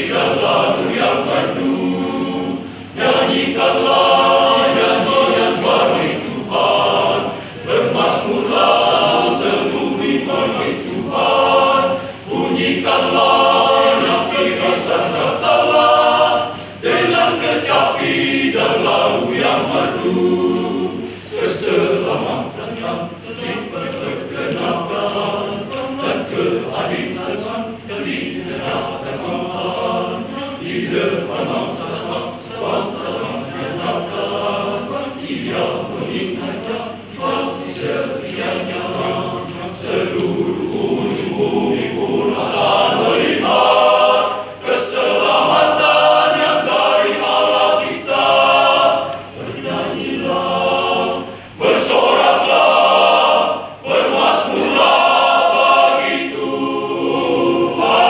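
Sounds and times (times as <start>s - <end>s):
men's choir singing: 0.0s - 58.0s.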